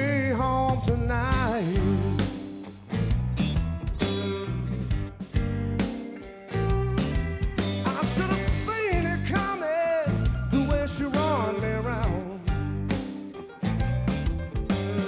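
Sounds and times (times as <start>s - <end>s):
country band instrumental: 0.0s - 15.0s
bending lead guitar melody: 1.0s - 15.0s.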